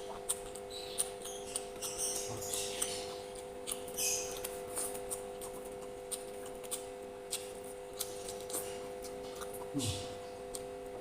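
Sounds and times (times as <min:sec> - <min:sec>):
chewing with mouth clicks: 0:00.0 - 0:11.0
electrical hum: 0:00.0 - 0:11.0.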